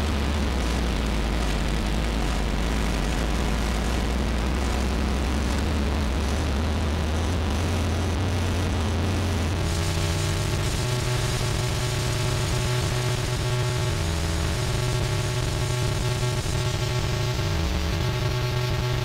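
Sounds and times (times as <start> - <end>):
electronic hiss: 0.0 - 19.0
low electronic droning hum: 0.0 - 19.0.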